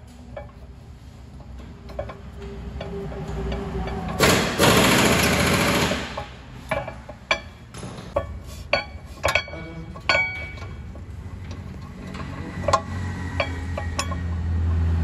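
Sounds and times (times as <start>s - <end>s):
power wrench rattling: 1.4s - 14.6s.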